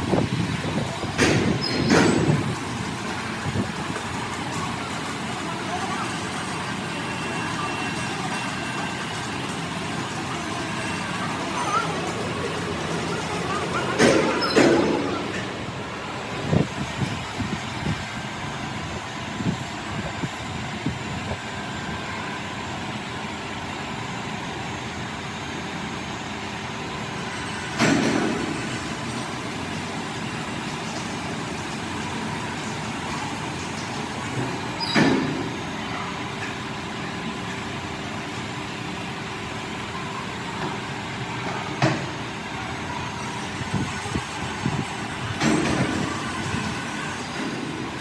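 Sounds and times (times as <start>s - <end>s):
steady mechanical noise: 0.0s - 48.0s.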